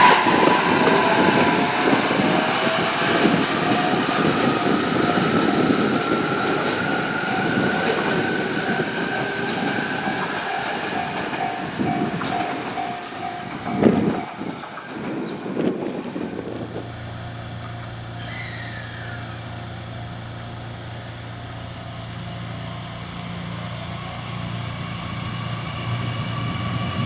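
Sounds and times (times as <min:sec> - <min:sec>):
electric train inverter whining: 0:00.0 - 0:27.0
train running gear rumble: 0:00.0 - 0:27.0.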